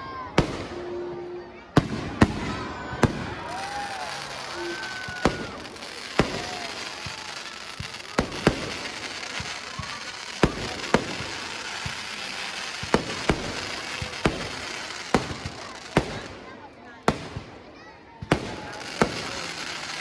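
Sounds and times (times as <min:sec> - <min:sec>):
firework bangs: 0:00.1 - 0:01.2, 0:01.8 - 0:20.0.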